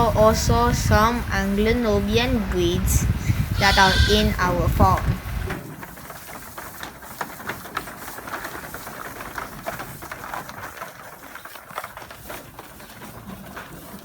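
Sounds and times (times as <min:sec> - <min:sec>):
goat hooves clicking and knocking: 0:00.0 - 0:14.0
rustling: 0:00.0 - 0:14.0.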